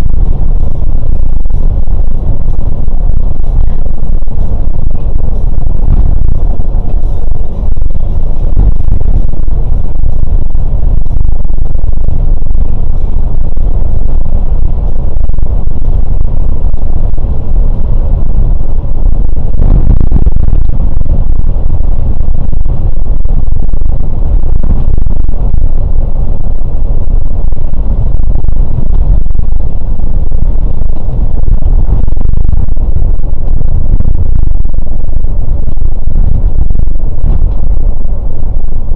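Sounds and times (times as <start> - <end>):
coach engine and road rumble: 0.0 - 38.9.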